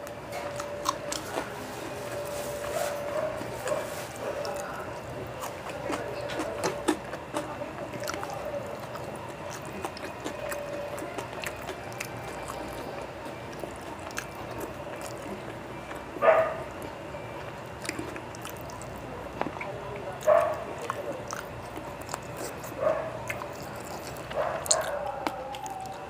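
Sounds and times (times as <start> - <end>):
chewing and lip smacks: 0.0 - 26.0.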